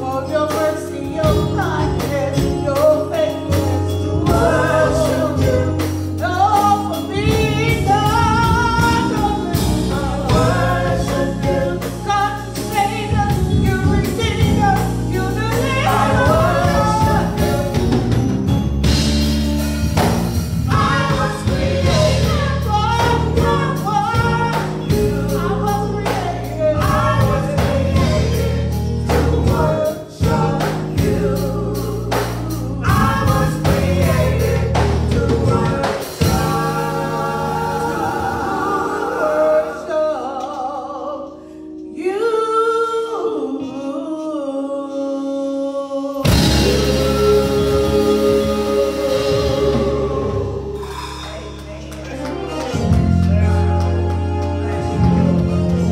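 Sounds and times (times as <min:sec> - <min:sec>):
beat and bass accompaniment: 0:00.0 - 0:40.2, 0:46.2 - 0:55.9
group gospel singing: 0:00.0 - 0:55.9.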